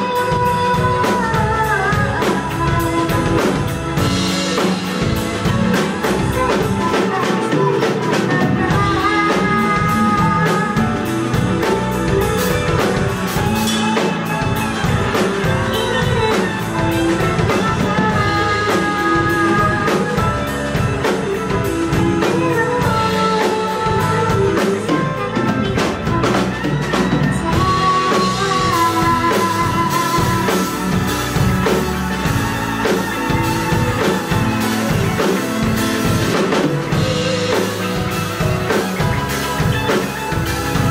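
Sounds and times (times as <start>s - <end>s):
drum kit beat: 0.0s - 40.9s
live band music: 0.0s - 40.9s.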